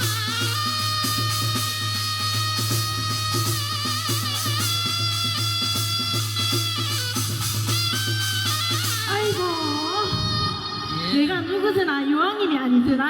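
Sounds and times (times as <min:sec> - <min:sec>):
drum steady beat: 0:00.0 - 0:11.1.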